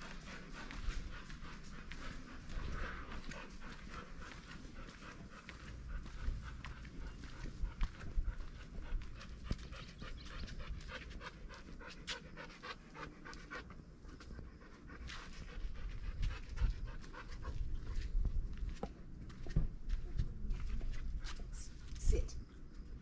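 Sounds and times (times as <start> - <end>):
dog panting: 0.0 - 21.8.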